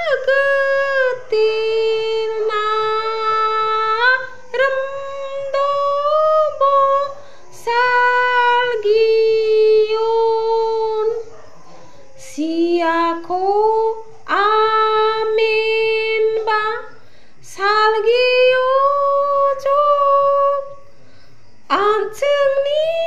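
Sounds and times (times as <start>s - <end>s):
woman singing a hymn: 0.0s - 11.3s, 12.2s - 20.8s, 21.6s - 23.0s.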